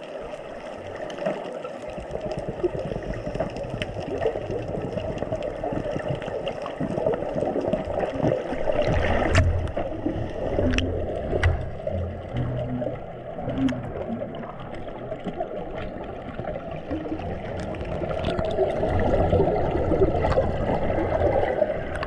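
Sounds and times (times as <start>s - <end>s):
underwater gurgling rush: 0.0s - 22.0s.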